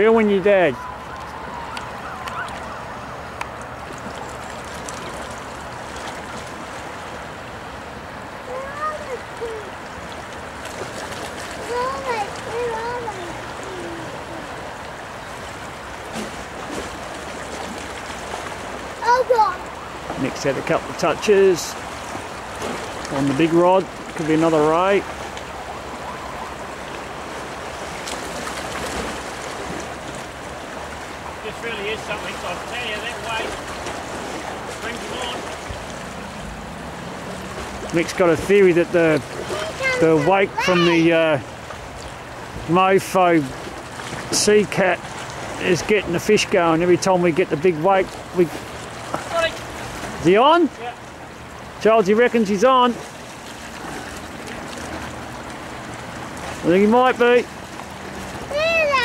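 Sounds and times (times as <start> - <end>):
water: 0.0 - 59.0
wind: 0.0 - 59.0.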